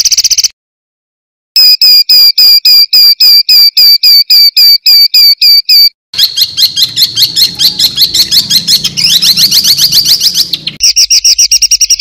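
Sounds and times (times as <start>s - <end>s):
fast bird trill: 0.0s - 0.6s, 1.6s - 12.0s
recorded songbird calls: 0.0s - 0.6s, 1.6s - 12.0s.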